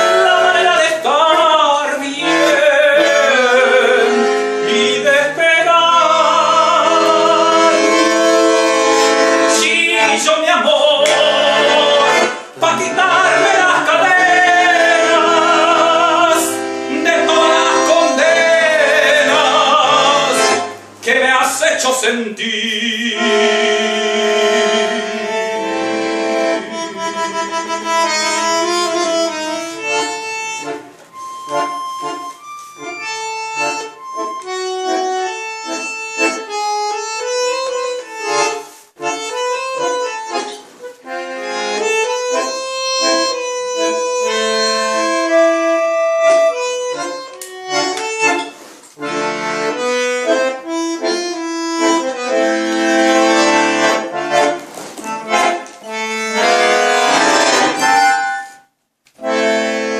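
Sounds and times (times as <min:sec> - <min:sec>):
accordion melody: 0:00.0 - 0:59.9.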